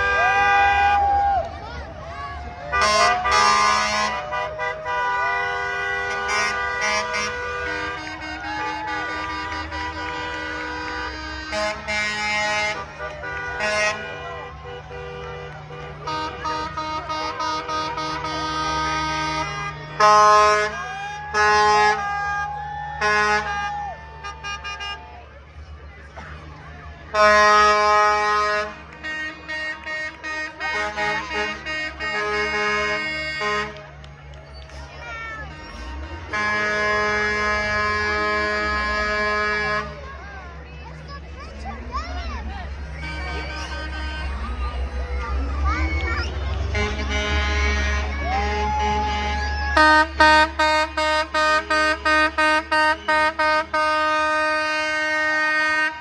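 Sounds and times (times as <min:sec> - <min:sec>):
truck air horn blasts: 0:00.0 - 0:01.2, 0:02.6 - 0:25.3, 0:27.0 - 0:41.2, 0:42.4 - 0:45.7, 0:46.6 - 0:56.0
faint crowd voices: 0:00.0 - 0:56.0.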